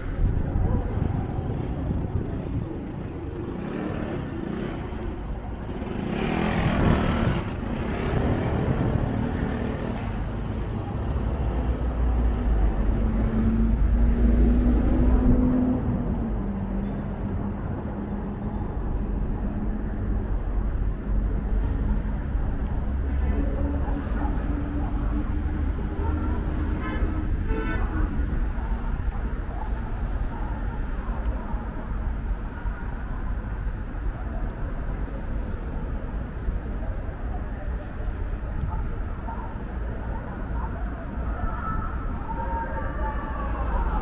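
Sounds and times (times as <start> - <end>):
deep traffic rumble: 0.0 - 44.0
vehicle engines passing: 0.0 - 44.0.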